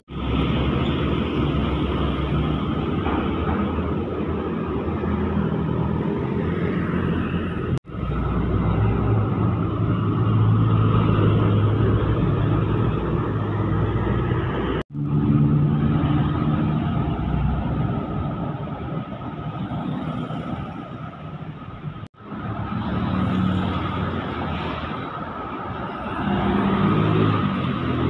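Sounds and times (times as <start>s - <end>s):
diesel trucks passing: 0.0s - 28.0s.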